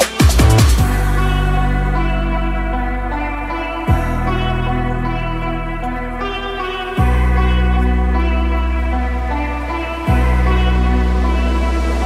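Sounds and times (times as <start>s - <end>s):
background music with bass chords: 0.0s - 12.0s.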